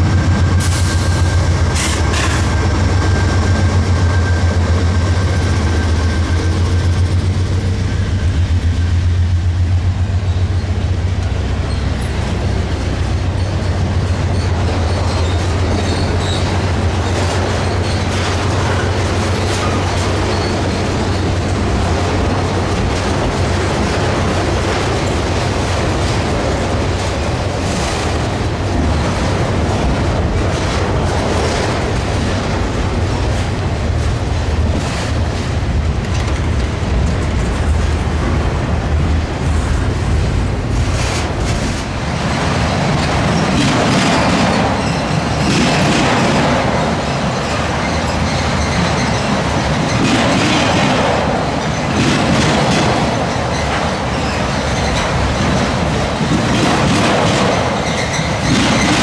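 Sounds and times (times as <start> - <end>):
sharp bangs of train wheels: 0.0 - 10.6, 11.2 - 59.0
freight train rumbling past: 0.0 - 59.0
train wheels clattering: 0.0 - 59.0.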